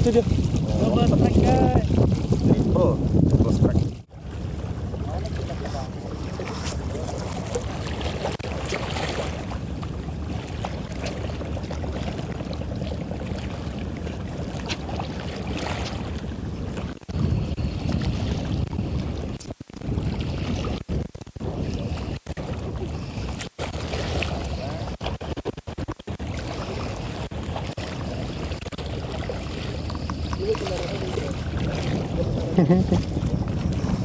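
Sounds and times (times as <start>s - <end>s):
wind buffeting the microphone: 0.0s - 34.0s.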